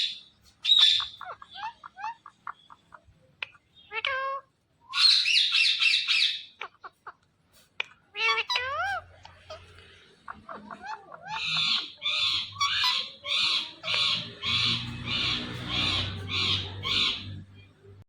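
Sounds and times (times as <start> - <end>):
parrot screeching and squawking: 0.0 - 7.1, 7.9 - 17.5.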